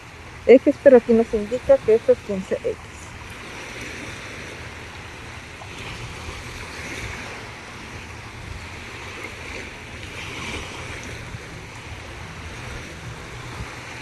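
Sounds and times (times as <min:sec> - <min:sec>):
sea waves on shore: 0:00.0 - 0:14.0
wind rumble on microphone: 0:00.0 - 0:14.0.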